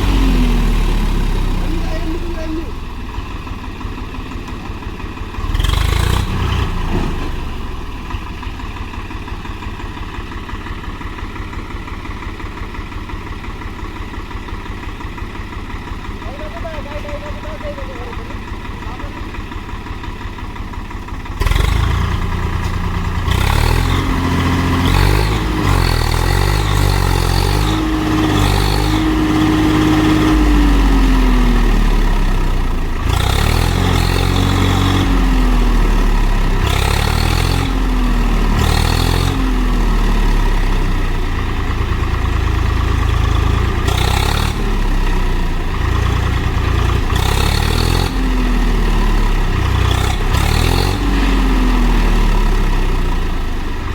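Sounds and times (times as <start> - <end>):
tractor engine revving under load: 0.0 - 12.4, 15.1 - 53.9.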